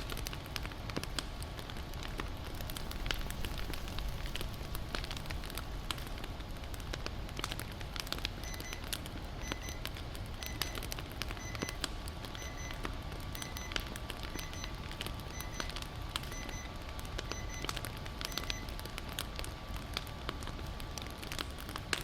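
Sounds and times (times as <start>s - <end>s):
low steady rumble: 0.0s - 22.0s
wood fire crackling: 0.0s - 22.0s.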